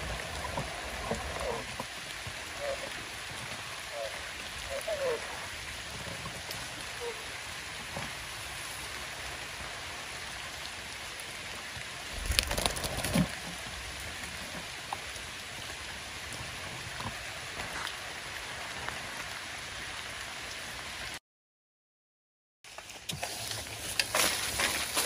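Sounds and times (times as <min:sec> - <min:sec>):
rain pattering on foliage: 0:00.0 - 0:21.2, 0:22.7 - 0:25.0.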